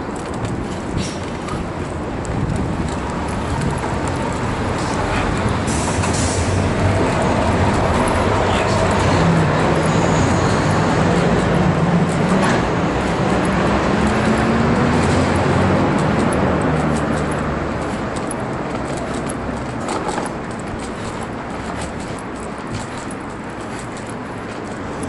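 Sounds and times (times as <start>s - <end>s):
street traffic noise: 0.0s - 25.0s
vehicle engine humming: 0.0s - 25.0s.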